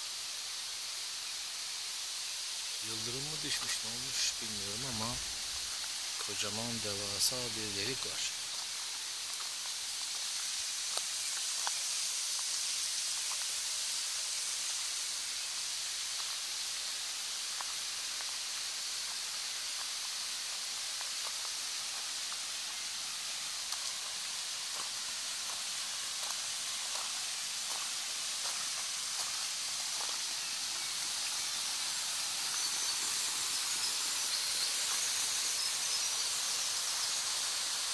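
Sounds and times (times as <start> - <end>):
high-pitched outdoor hiss: 0.0 - 37.9.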